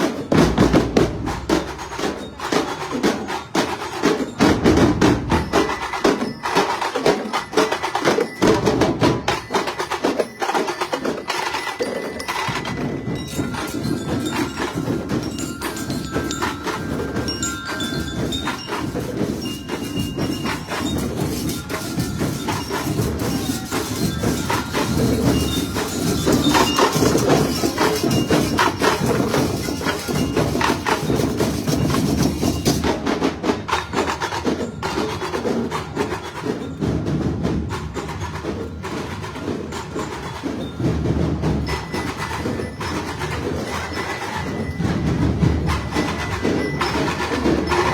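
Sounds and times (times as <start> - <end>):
parade percussion music: 0.0 - 47.9
bell-like tones: 0.2 - 37.1, 38.4 - 47.9.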